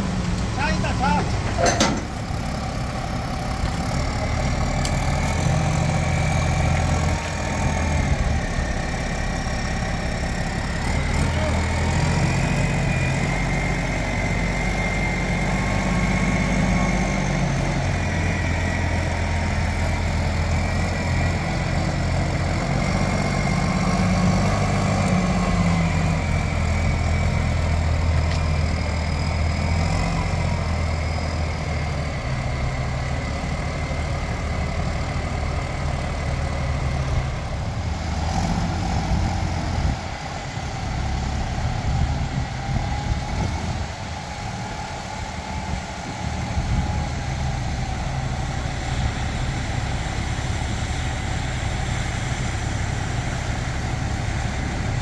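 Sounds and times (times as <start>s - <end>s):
pile driver engine humming: 0.0s - 55.0s.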